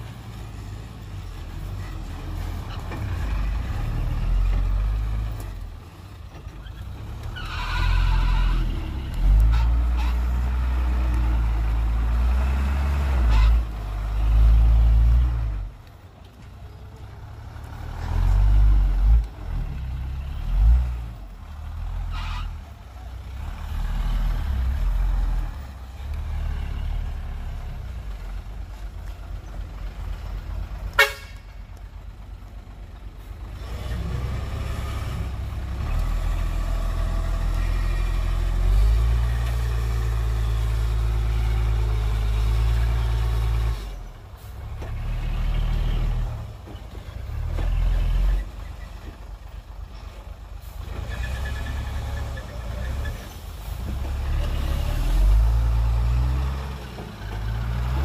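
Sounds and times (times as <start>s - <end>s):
heavy diesel engines rumbling: 0.0s - 58.0s.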